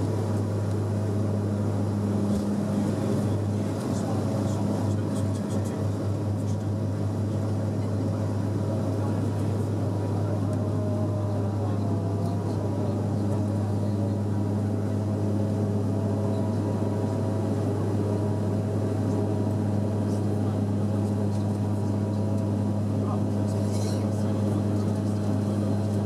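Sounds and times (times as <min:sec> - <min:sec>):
deep propeller drone: 0:00.0 - 0:26.0.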